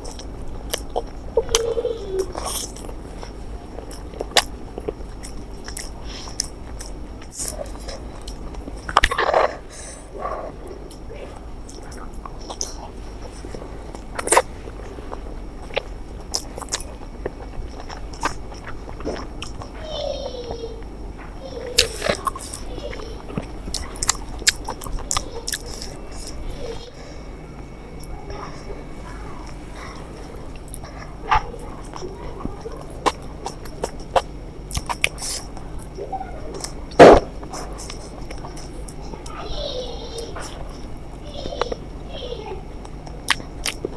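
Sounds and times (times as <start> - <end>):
mouth clicks and smacks chewing: 0.0 - 19.8, 21.7 - 26.5, 29.4 - 39.4, 42.8 - 43.9.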